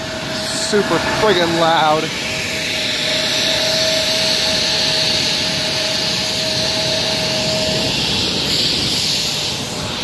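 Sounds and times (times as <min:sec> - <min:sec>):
high even jet whine: 0:00.0 - 0:10.0
jet engines rushing: 0:00.0 - 0:10.0.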